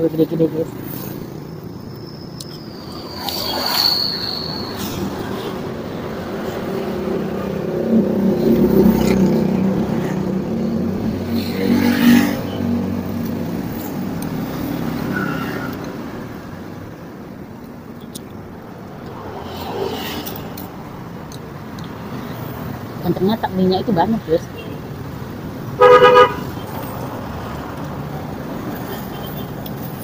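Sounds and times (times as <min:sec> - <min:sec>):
vehicle passing: 0:02.4 - 0:16.7, 0:18.8 - 0:30.0.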